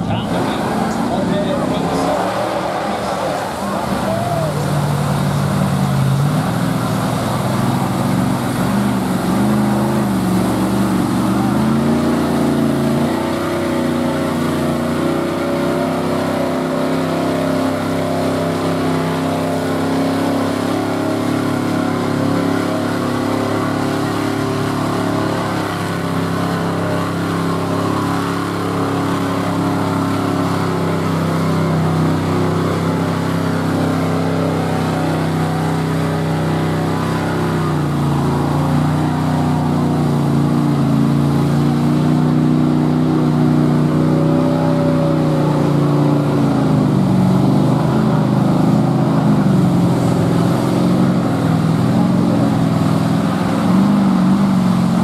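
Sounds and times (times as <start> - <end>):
truck churning through mud: 0.0 - 55.0
truck engine at high revs: 0.0 - 55.0.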